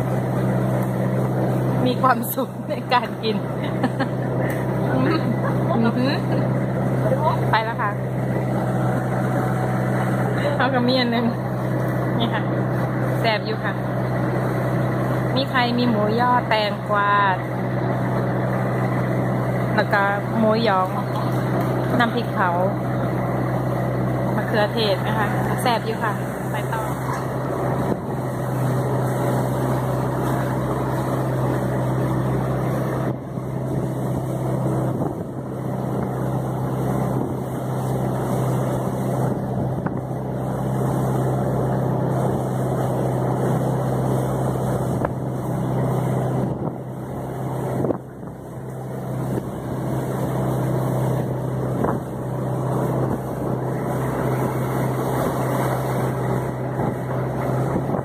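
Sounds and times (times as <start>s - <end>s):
boat engine droning: 0.0s - 58.0s
water rushing along hull: 0.0s - 58.0s.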